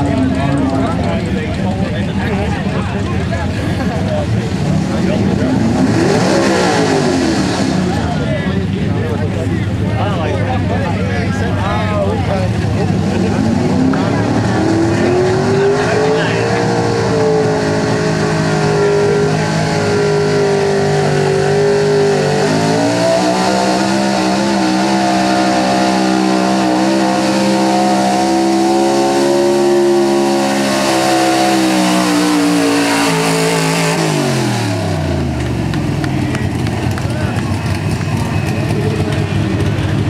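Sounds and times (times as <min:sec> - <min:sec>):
pickup engine at full throttle: 0:00.0 - 0:40.0.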